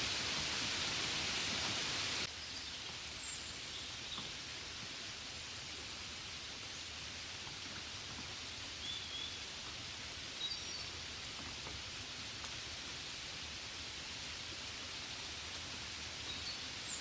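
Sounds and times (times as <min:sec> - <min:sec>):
gentle rain: 0:00.0 - 0:17.0.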